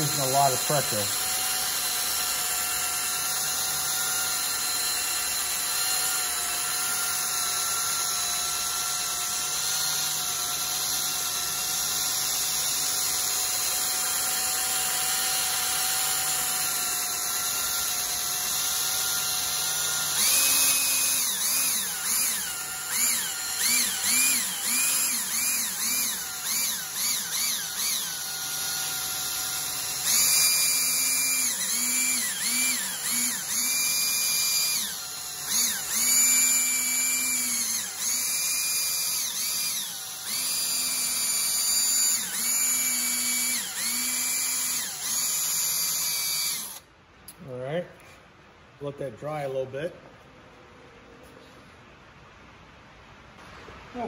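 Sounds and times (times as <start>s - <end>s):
cordless drill polishing: 0.0s - 46.9s.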